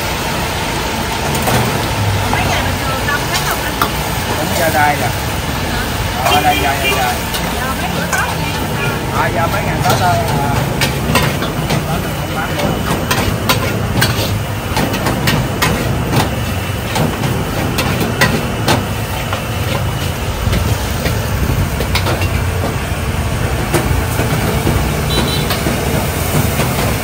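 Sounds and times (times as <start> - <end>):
traffic engine rumble: 0.0 - 27.0.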